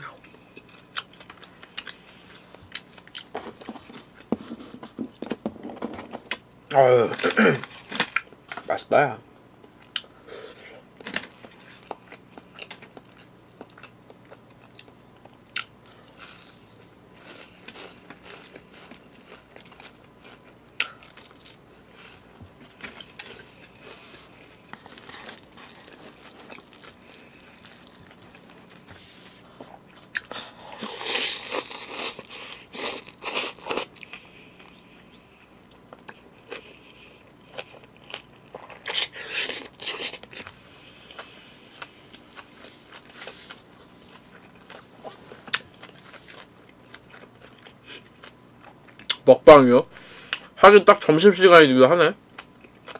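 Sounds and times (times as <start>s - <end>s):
person chewing crunchy food: 0.0s - 6.4s, 9.6s - 49.2s, 52.3s - 52.9s.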